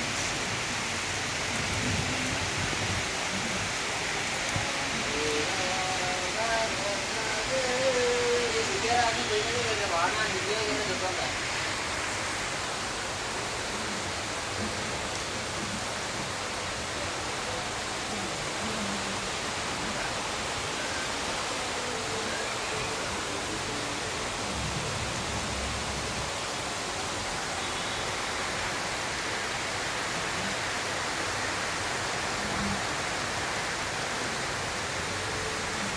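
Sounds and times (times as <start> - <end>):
heavy rain falling: 0.0 - 35.9.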